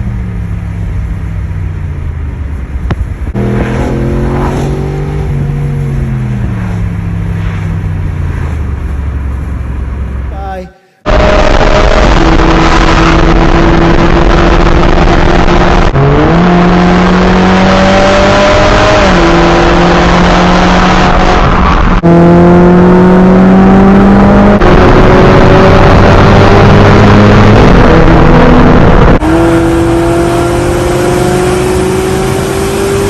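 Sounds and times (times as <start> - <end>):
loud car exhaust revving: 2.7 - 10.3, 11.0 - 33.0.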